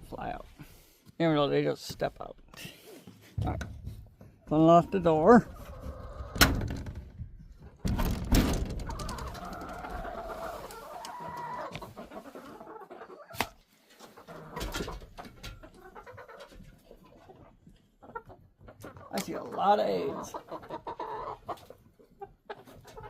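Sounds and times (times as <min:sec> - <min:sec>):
chickens clucking: 0:03.9 - 0:06.6, 0:07.2 - 0:23.0.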